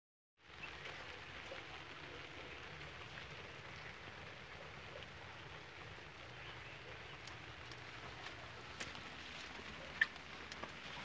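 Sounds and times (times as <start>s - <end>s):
water dripping onto stone: 0.4s - 11.0s.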